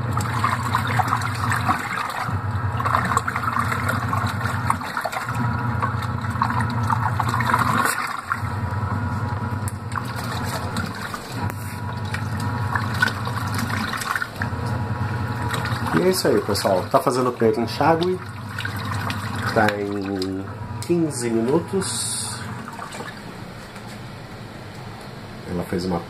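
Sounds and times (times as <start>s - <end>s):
water sloshing in a tub: 0.0s - 24.5s
washer motor humming: 0.0s - 26.0s.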